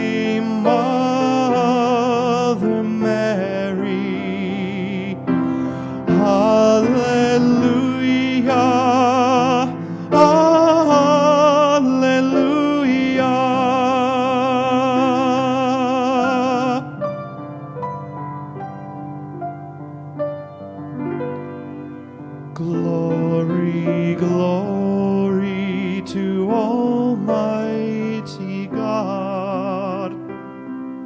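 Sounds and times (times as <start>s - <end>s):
person singing with vibrato: 0.0s - 17.6s, 22.5s - 30.5s
grand piano: 0.0s - 31.0s.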